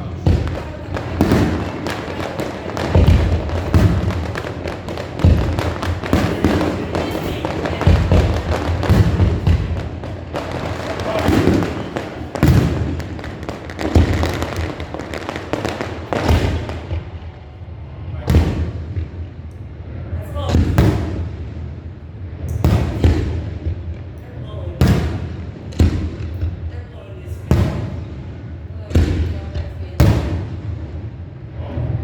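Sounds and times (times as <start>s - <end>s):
fireworks booming and crackling: 0.0s - 32.0s.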